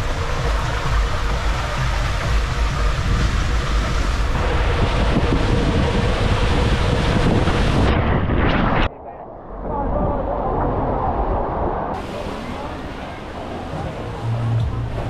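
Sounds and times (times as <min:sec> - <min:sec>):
water rushing: 0:00.0 - 0:08.9, 0:09.6 - 0:15.0
wind buffeting microphone: 0:00.0 - 0:12.5.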